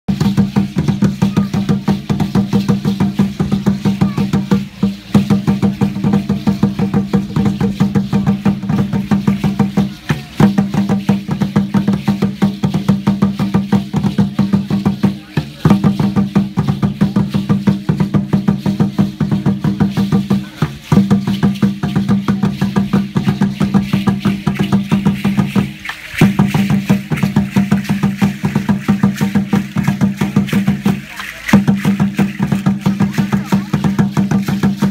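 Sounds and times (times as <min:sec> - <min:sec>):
deep drum beating fast: 0:00.1 - 0:34.9.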